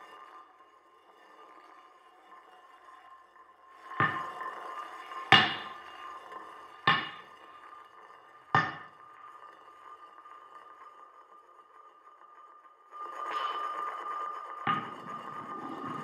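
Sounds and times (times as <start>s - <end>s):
steady droning tone: 0.0s - 16.0s.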